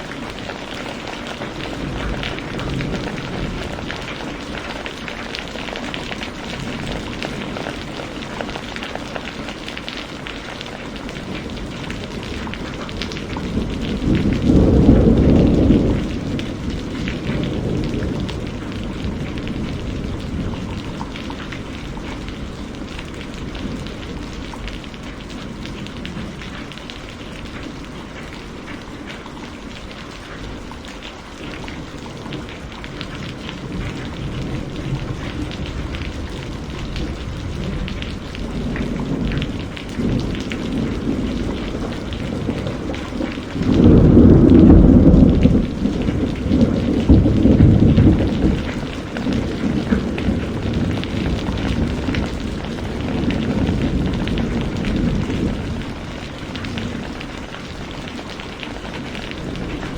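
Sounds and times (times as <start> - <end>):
thunder rumbling: 0.0 - 28.7, 30.3 - 59.9
heavy rain: 0.0 - 59.9.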